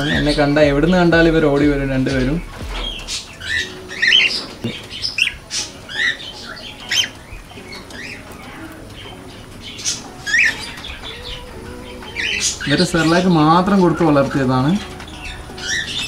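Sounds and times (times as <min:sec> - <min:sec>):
cockatiels chirping: 0:00.0 - 0:16.0.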